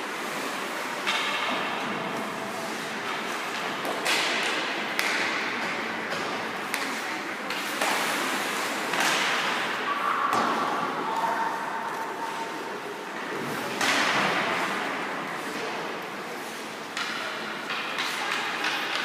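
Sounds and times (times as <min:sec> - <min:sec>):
noisy rink background: 0:00.0 - 0:19.0.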